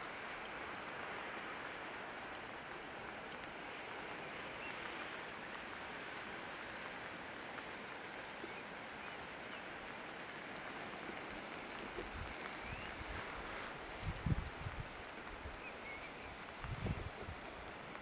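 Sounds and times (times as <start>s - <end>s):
light rain: 0.0s - 18.0s
sea: 0.0s - 18.0s.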